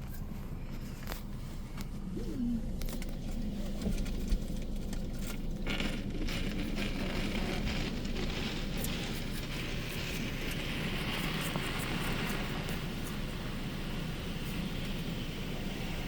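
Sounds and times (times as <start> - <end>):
car wash machinery drone: 0.2 - 16.0.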